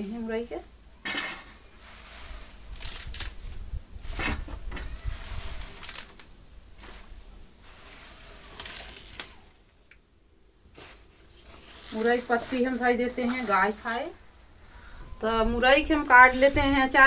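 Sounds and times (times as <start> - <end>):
leaves rustling: 0.0 - 17.0.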